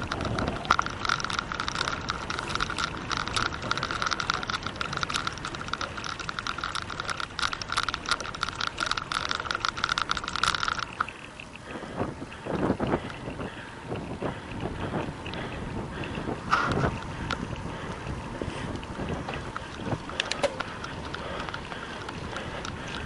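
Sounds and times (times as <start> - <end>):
bicycle freewheel ticking: 0.0 - 23.0.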